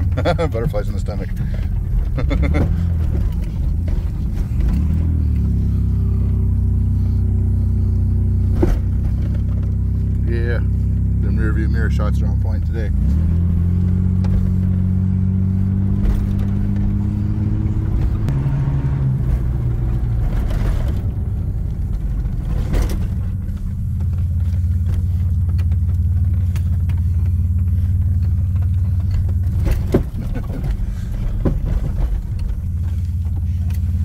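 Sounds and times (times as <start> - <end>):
off-road vehicle engine running: 0.0 - 34.0.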